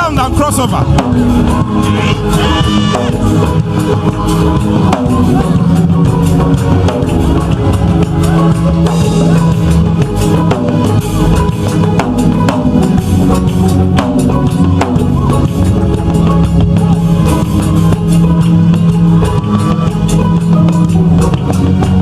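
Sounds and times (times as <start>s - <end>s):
instrumental music with drum kit: 0.0s - 22.0s.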